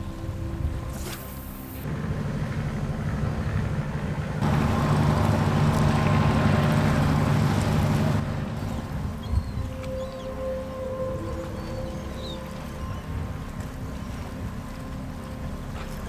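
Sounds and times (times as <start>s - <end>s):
ship engine rumble: 0.0s - 16.0s
water wash: 0.0s - 16.0s.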